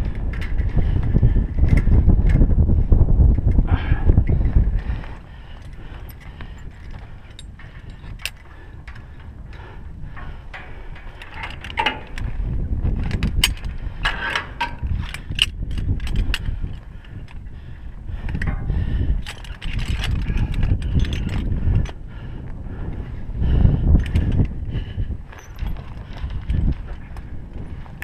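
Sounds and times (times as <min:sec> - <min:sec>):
carabiners clinking on steel: 0:00.0 - 0:02.4, 0:03.3 - 0:22.0, 0:23.8 - 0:28.0
wind rumble on microphone: 0:00.0 - 0:28.0.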